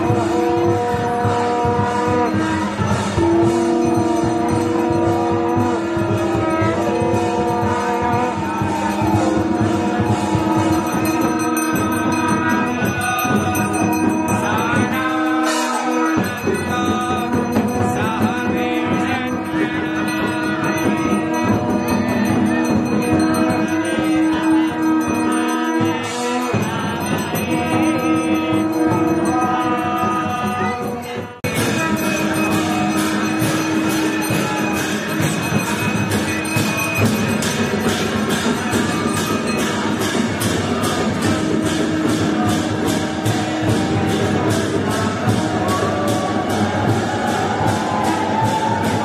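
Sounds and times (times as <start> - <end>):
group devotional chanting: 0.0 - 49.0
instrumental accompaniment: 0.0 - 49.0.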